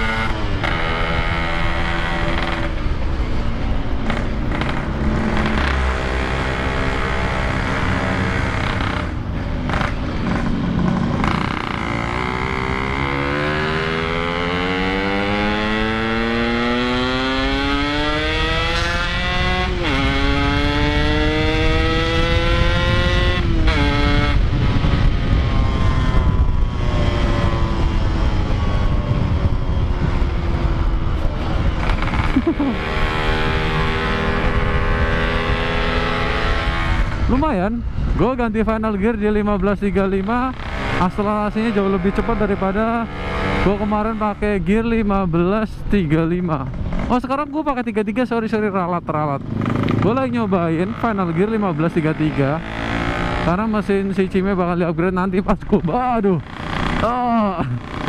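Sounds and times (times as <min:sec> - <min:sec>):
motorcycle engine accelerating: 0:00.0 - 0:58.0
wind and road rush: 0:00.0 - 0:58.0.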